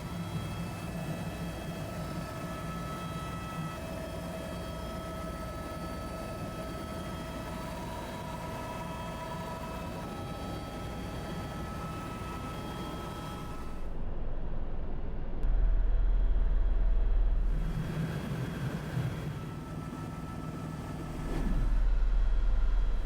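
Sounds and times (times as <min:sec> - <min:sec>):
helicopter engine and rotor drone: 0:00.0 - 0:14.4, 0:17.4 - 0:23.0
constant whining tones: 0:00.0 - 0:23.0.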